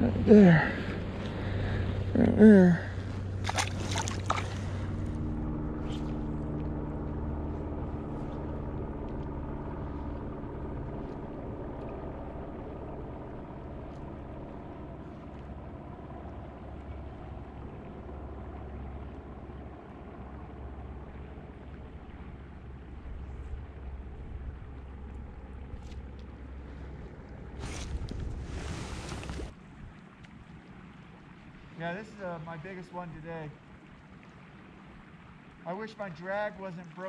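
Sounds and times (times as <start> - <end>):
motor hum: 0.0 - 29.8.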